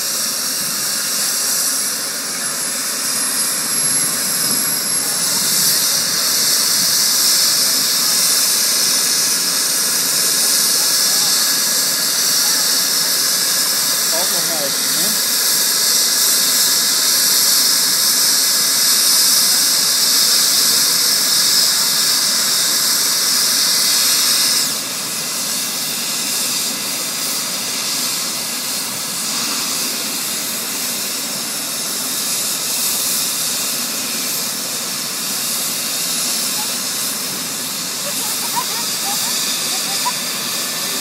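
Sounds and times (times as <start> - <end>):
helicopter turbine engines whining: 0.0 - 41.0.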